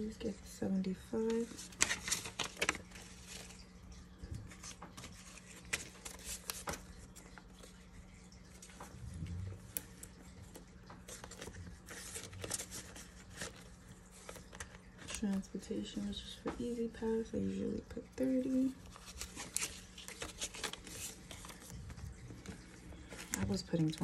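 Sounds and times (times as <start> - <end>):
banknotes rustling and flicking: 1.1 - 24.0.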